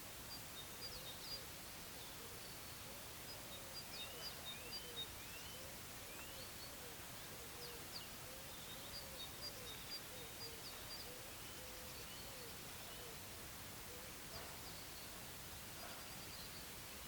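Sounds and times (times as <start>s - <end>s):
faint hiss: 0.0s - 17.0s
small birds chirping: 0.3s - 13.3s, 14.1s - 17.0s.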